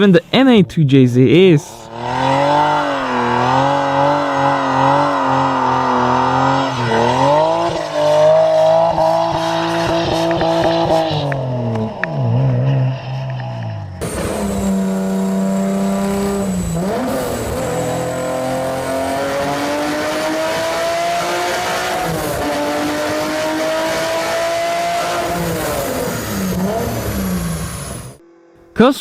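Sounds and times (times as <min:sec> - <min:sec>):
car engine revving: 0:01.7 - 0:28.8.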